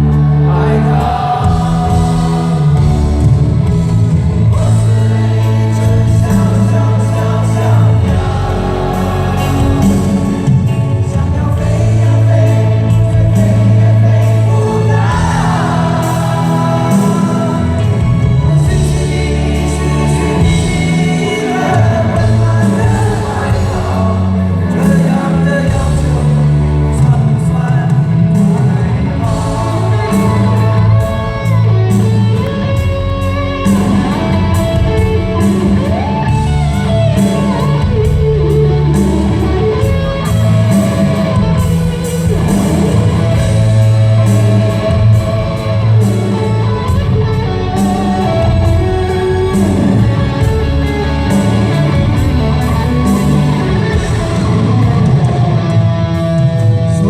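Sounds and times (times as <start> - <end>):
electric guitars: 0.0 - 57.0
person singing: 0.0 - 57.0
steady drum beat: 0.0 - 57.0.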